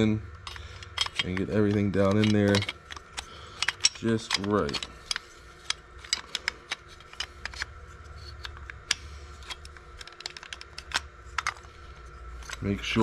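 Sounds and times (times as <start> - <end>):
plastic and metal parts clicking: 0.0 - 13.0.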